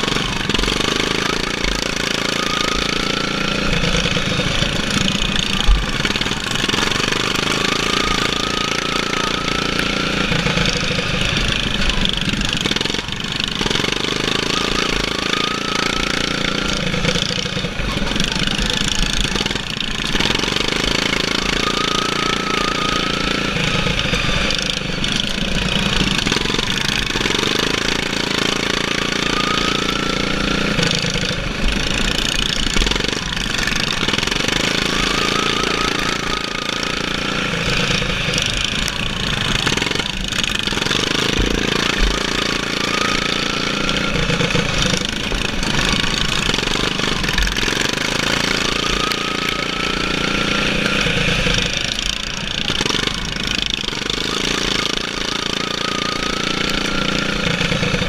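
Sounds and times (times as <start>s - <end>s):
lawn mower engine running hard: 0.0s - 58.0s
thin rising whine: 0.0s - 58.0s.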